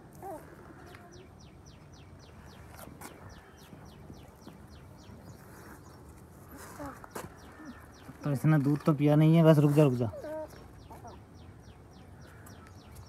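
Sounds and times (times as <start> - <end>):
small bird chirping: 0.2 - 13.0.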